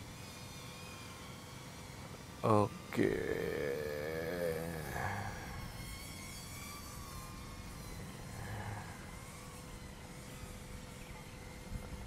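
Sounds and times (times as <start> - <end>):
drone motor whine: 0.0 - 12.0.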